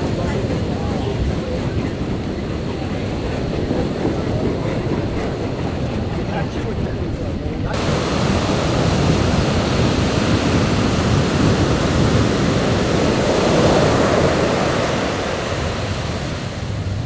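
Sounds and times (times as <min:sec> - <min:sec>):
waves breaking on shore: 0:00.0 - 0:17.0.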